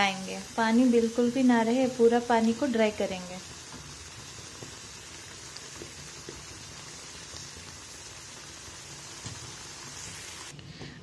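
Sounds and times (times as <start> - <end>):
meat simmering in a frying pan: 0.0 - 10.6.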